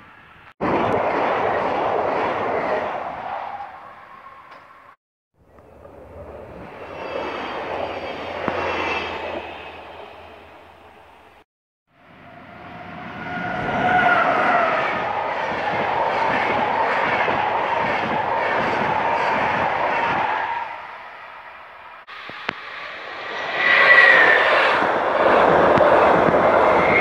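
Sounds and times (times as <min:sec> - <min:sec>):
train passing: 0:00.1 - 0:27.0.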